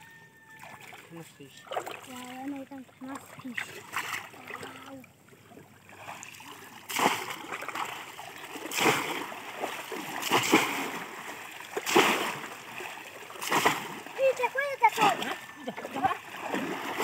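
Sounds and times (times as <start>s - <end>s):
heavy water splashes: 0.6s - 17.0s.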